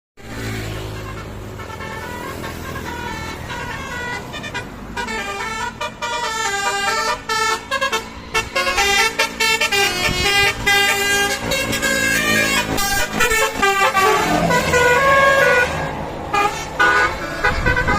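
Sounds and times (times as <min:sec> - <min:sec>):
bus multi-tone horn melody: 0:00.3 - 0:17.9.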